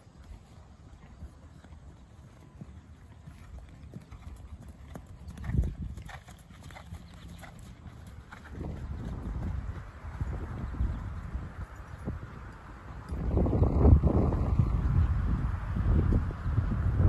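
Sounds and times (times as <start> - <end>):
horse hoofbeats on sand: 0.0 - 14.5.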